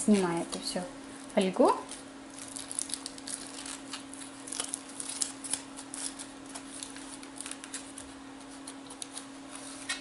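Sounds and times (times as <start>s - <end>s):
foil wrapper crinkling: 0.1s - 10.0s.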